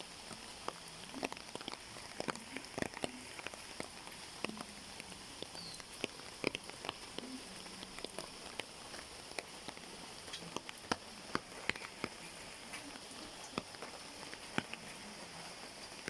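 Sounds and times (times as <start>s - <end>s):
raindrops tapping: 0.0s - 16.0s
soft rain hiss: 0.0s - 16.0s.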